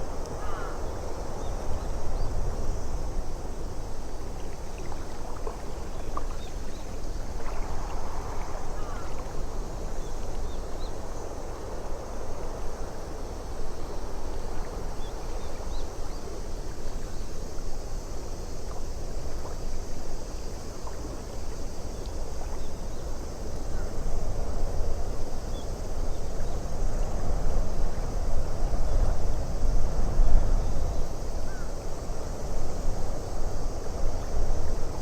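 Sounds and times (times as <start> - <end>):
wind: 0.0 - 35.0.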